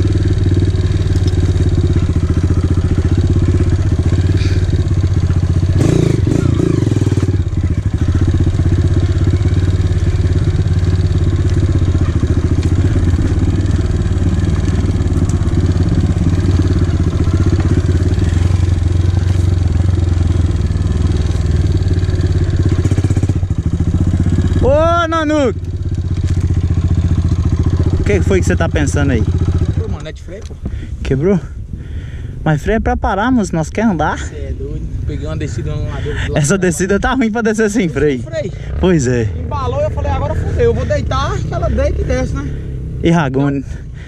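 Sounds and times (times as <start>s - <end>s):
dirt bike engine running: 0.0s - 44.0s.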